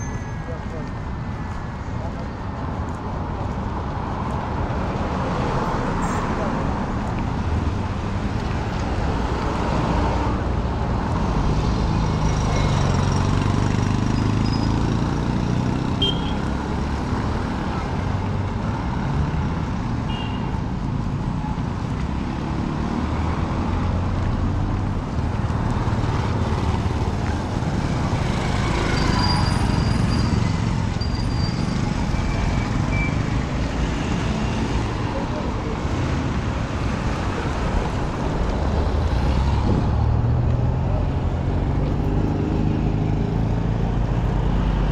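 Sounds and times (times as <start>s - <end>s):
traffic rumble: 0.0s - 44.9s.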